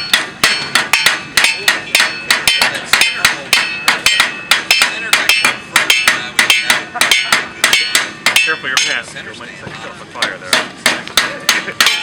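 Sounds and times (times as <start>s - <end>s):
hammers ringing on anvil: 0.0s - 9.1s, 10.2s - 12.0s.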